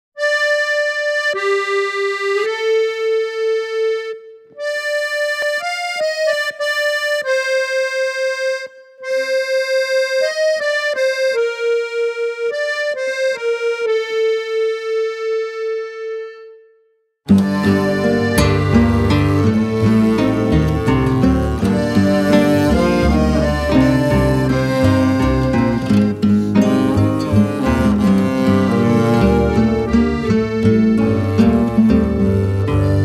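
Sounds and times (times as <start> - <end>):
slow solo instrumental melody: 0.2 - 33.0.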